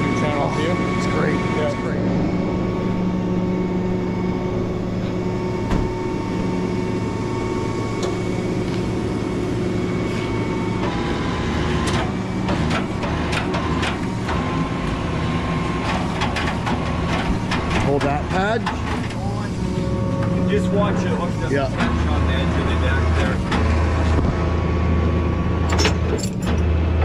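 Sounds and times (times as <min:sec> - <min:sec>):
truck engine with hydraulic whine: 0:00.0 - 0:27.0.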